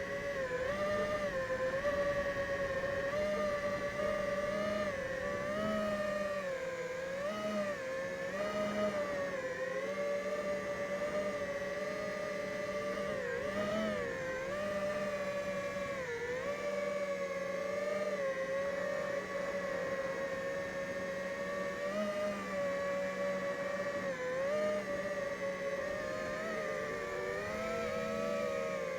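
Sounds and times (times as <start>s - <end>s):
quadcopter motors whining: 0.0s - 28.9s.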